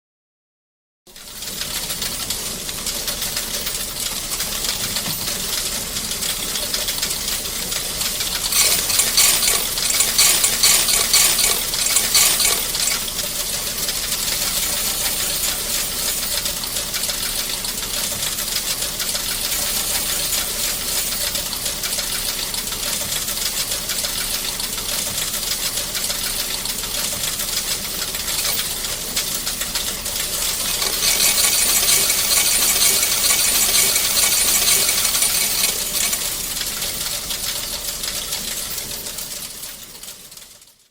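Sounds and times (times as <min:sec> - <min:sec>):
coin counting machine clattering: 0:01.1 - 0:40.9.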